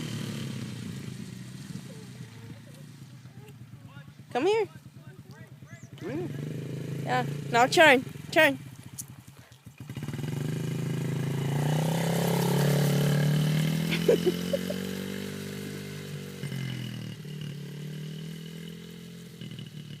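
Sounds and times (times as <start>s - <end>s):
small motorcycle engine running: 0.0s - 20.0s.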